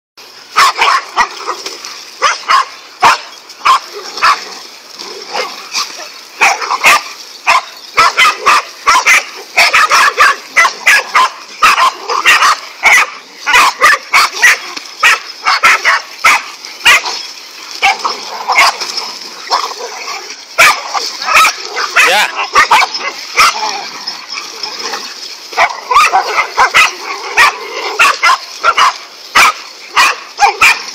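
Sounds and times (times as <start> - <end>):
dogs barking: 0.5 - 4.6, 5.2 - 30.9
dogs yipping and whining: 5.3 - 30.9.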